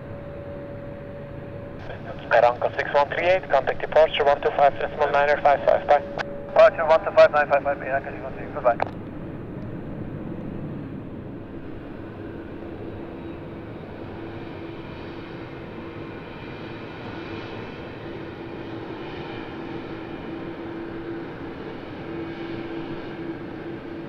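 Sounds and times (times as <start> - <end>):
jet engine rush and hum: 0.0 - 24.0.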